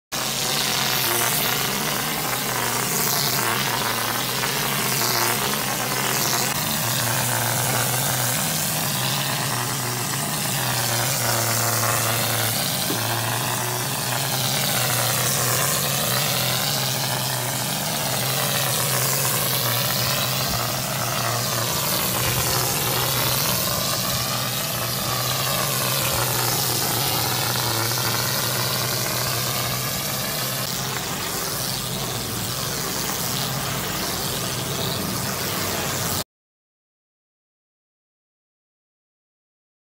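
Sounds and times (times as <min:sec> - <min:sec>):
mixing pump humming: 0:00.2 - 0:36.2
spray gun hissing: 0:00.2 - 0:36.2.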